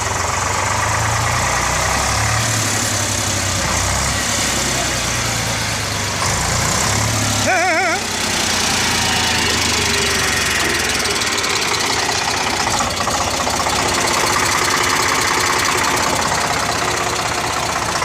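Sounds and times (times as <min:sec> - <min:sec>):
diesel tractor engine idling: 0:00.0 - 0:18.0.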